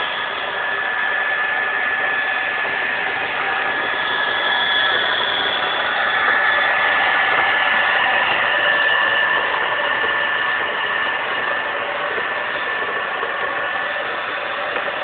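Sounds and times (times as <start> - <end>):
carpet cleaning machine whining: 0.0 - 15.0.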